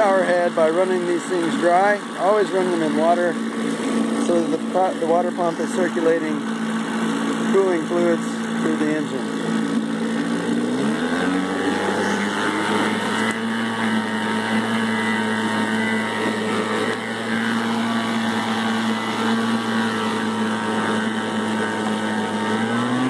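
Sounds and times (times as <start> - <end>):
outboard motor revving: 0.0 - 23.0
propeller churning water: 0.0 - 23.0.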